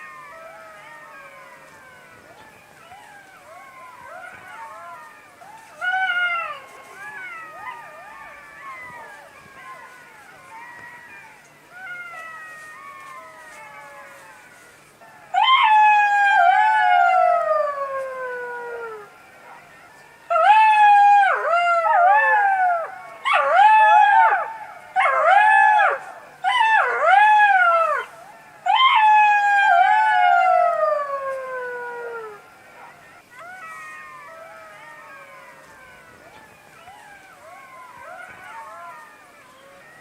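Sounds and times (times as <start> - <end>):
jackal howling: 0.0 - 40.0.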